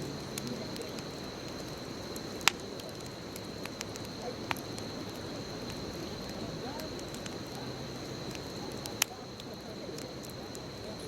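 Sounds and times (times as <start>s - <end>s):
bonfire hissing and crackling: 0.0s - 11.0s.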